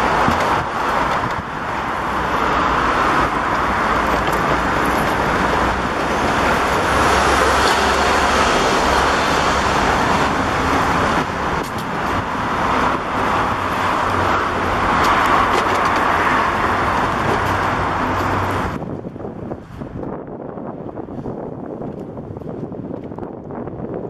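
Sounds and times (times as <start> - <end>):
wheelchair wheels rolling on paving: 0.0 - 19.9.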